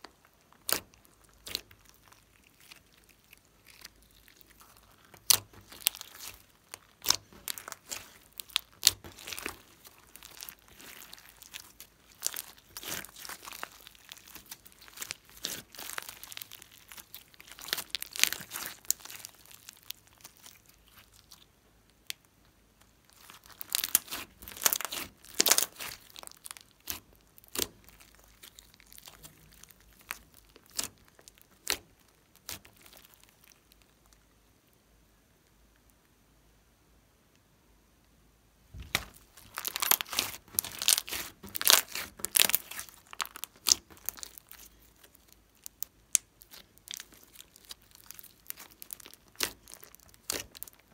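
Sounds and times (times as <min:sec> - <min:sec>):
slime crackling and popping: 0:00.0 - 0:34.4, 0:38.8 - 0:50.9.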